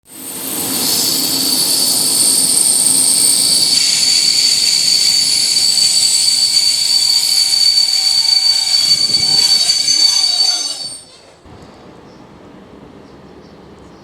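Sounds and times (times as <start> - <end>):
train brakes squealing: 0.0 - 11.8.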